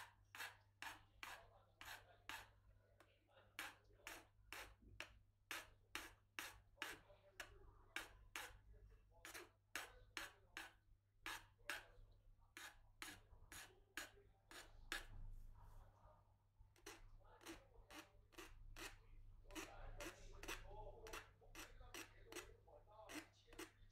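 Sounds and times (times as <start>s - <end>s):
hand tool scraping: 0.0s - 2.5s, 3.6s - 8.6s, 9.2s - 11.9s, 12.6s - 15.2s, 16.8s - 23.9s.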